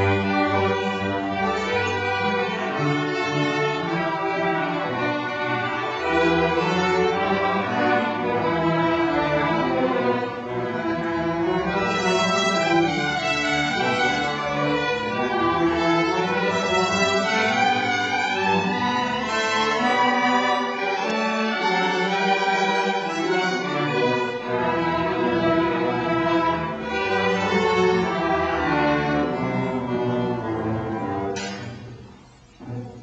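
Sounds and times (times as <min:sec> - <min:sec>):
string orchestra playing march: 0:00.0 - 0:33.0.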